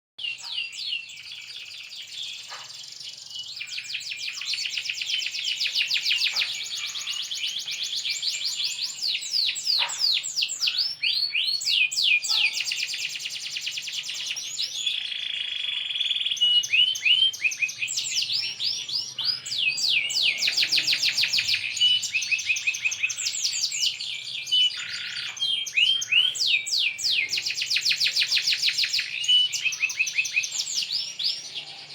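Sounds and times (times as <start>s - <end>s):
canary singing trills: 0.2s - 31.9s.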